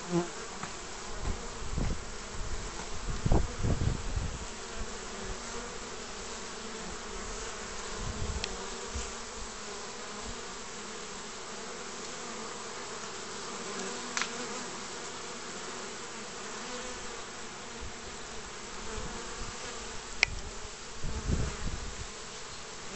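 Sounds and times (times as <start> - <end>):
honeybees buzzing: 0.0 - 22.9.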